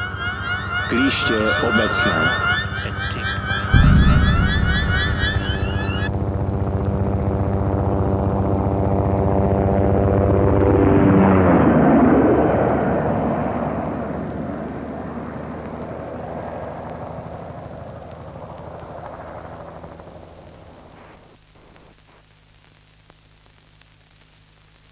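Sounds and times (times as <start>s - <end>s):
aircraft flying past: 0.0s - 20.2s.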